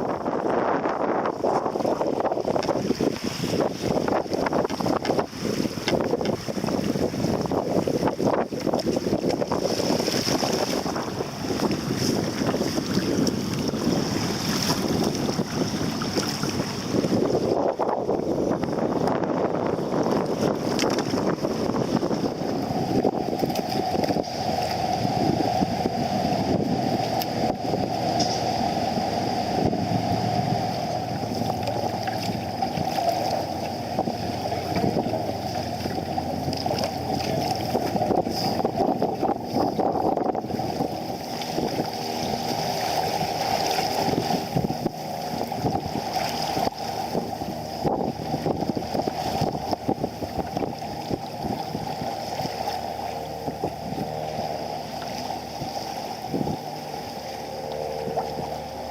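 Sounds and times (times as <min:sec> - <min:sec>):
water rushing along a hull: 0:00.0 - 0:58.9
wind buffeting microphone: 0:00.0 - 0:58.9.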